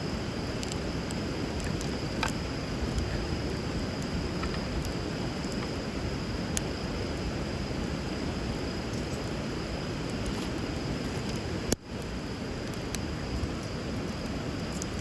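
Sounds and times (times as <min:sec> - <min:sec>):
wood fire popping: 0:00.0 - 0:15.0.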